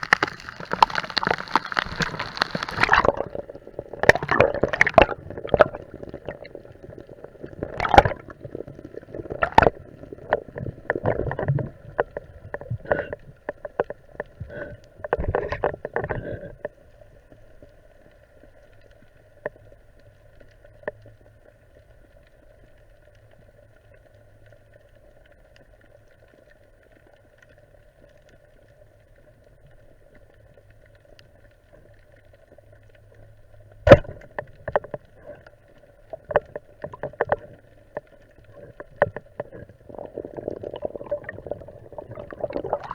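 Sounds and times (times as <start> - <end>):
motor hum underwater: 0.0 - 42.9.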